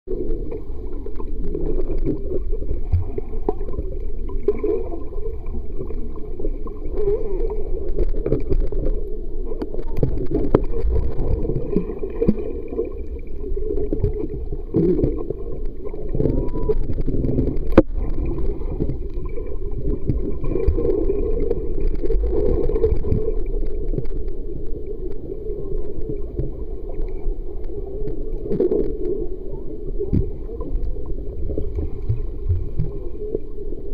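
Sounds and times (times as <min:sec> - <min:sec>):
muffled underwater churning: 0:00.1 - 0:33.9.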